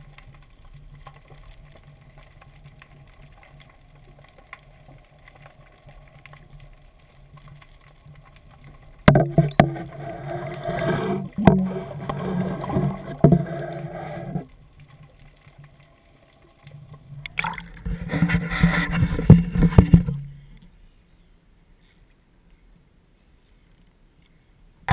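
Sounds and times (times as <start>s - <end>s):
water churning and splashing: 0.0s - 20.2s.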